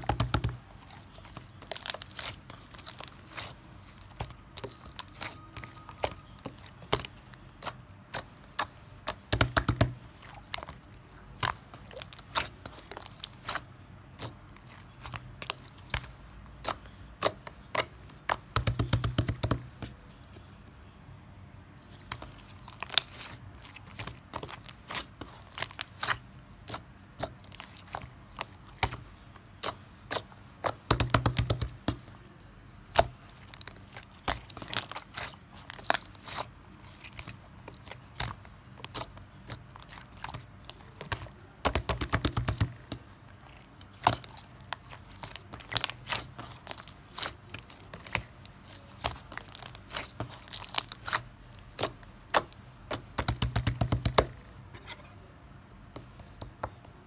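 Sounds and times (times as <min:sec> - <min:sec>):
crisp crunching and crackling: 0:00.0 - 0:20.5, 0:21.8 - 0:54.4.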